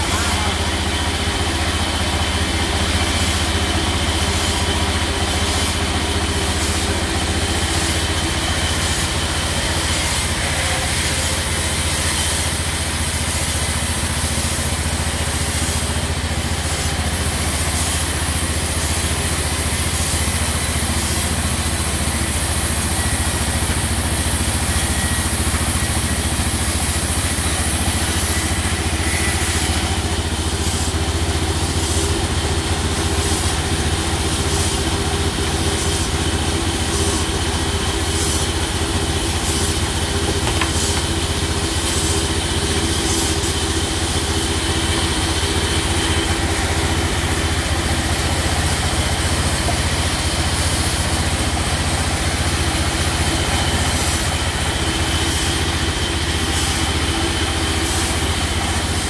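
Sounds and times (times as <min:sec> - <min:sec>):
band saw humming: 0:00.0 - 0:59.0
saw blade ripping through wood: 0:02.9 - 0:59.0.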